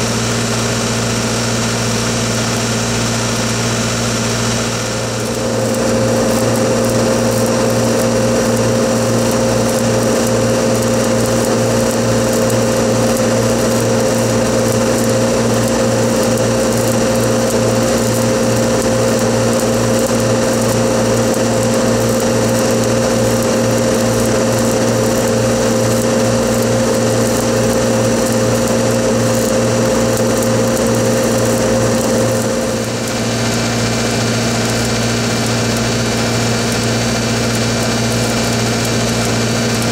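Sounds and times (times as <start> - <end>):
welding arc crackling: 0.0 - 39.9
welding machine engine humming: 0.0 - 39.9.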